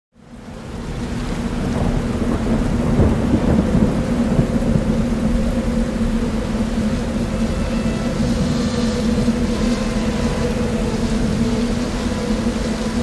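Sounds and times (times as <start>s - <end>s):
heavy rain: 0.2s - 13.0s
low hum: 0.5s - 13.0s
thunder rumbling: 0.5s - 13.0s.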